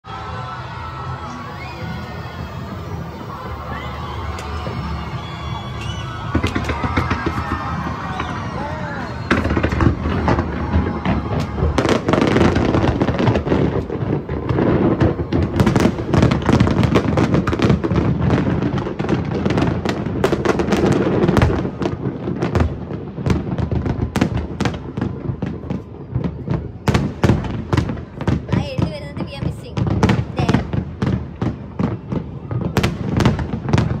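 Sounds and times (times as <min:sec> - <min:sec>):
fireworks bursting and crackling: 0:00.1 - 0:34.0.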